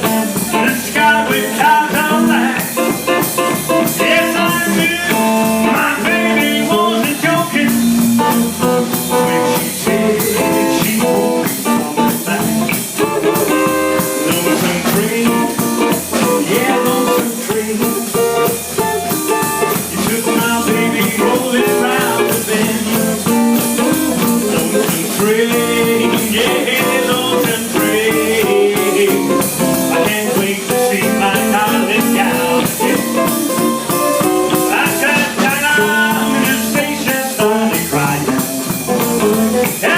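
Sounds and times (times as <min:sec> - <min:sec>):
drum kit steady beat: 0:00.0 - 0:39.9
electric guitar: 0:00.0 - 0:39.9.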